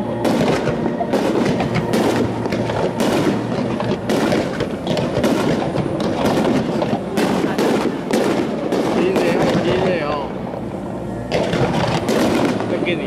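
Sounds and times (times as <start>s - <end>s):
fireworks bangs and crackles: 0.0s - 10.3s, 11.3s - 13.0s
continuous rumble: 0.0s - 13.0s.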